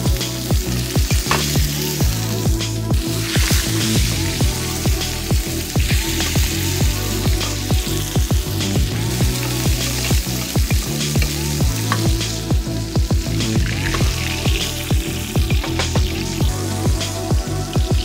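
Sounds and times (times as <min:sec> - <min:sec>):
background music with bass beat: 0:00.0 - 0:18.0
steak sizzling in a frying pan: 0:00.0 - 0:18.0.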